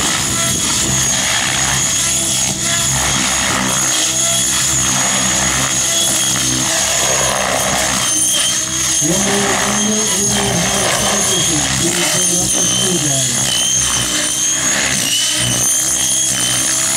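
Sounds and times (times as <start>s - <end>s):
electric motor whine: 0.0s - 16.9s
rotor blades whirring: 0.0s - 16.9s.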